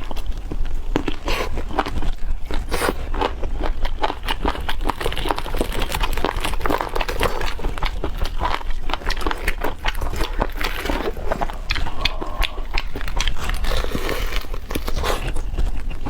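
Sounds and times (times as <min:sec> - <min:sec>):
chewing and crunching chicken: 0:00.0 - 0:16.0.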